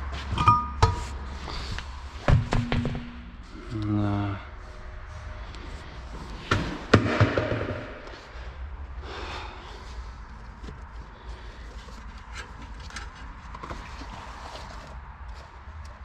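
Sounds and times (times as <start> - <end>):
low steady garage hum: 0.0 - 16.0.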